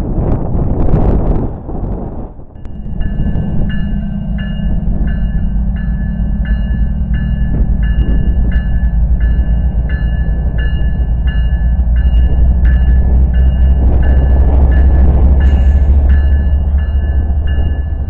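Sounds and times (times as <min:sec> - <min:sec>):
diesel locomotives rumbling: 0:00.0 - 0:18.0
bell ringing: 0:02.6 - 0:18.0.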